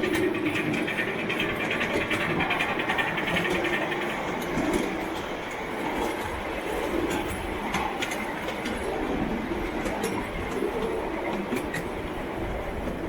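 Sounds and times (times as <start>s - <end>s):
train running on track: 0.0s - 13.0s
wheels clicking over rails: 0.0s - 13.0s.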